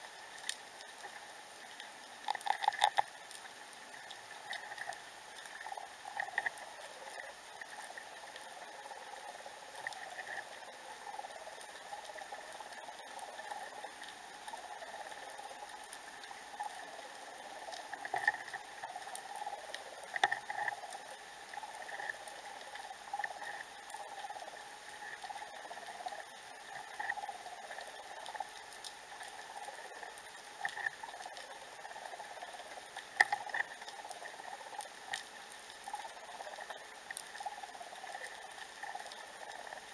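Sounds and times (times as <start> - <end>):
crackling clicks: 0.0 - 39.9
muffled underwater hiss: 0.0 - 39.9.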